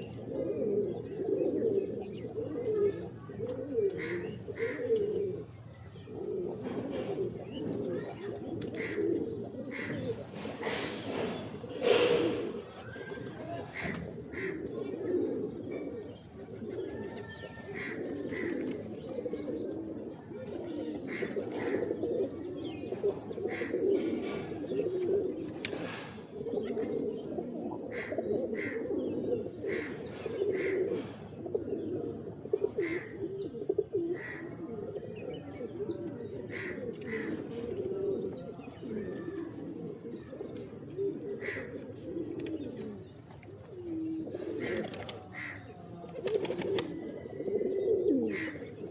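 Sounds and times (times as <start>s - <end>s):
pigeons cooing: 0.0s - 48.9s.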